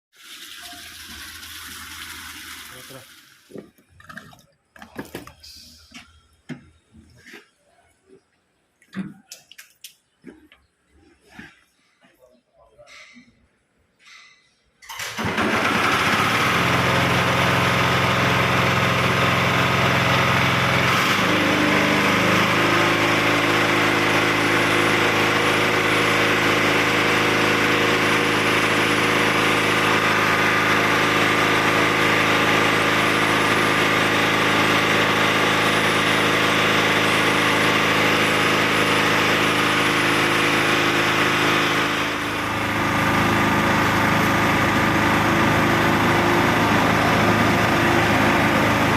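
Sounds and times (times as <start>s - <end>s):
water pump motor humming: 0.2s - 6.7s, 15.0s - 48.9s.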